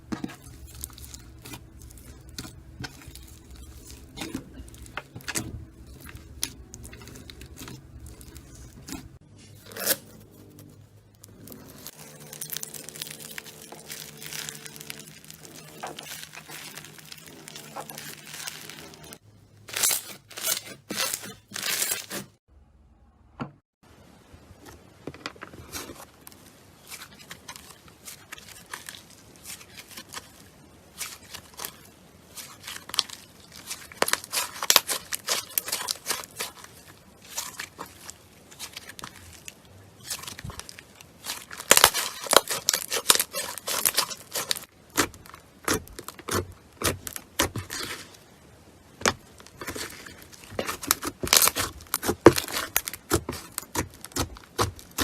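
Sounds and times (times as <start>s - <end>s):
slime crackling and popping: 0.1s - 9.2s, 11.3s - 22.2s, 26.9s - 48.2s, 49.0s - 55.0s.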